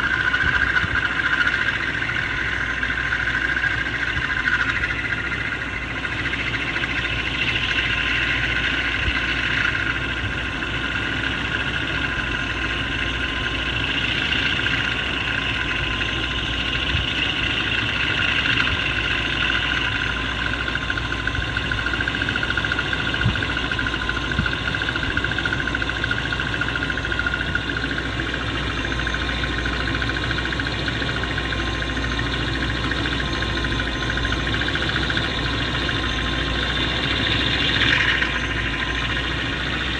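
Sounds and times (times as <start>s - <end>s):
engine idling with whirring drone: 0.0s - 39.9s.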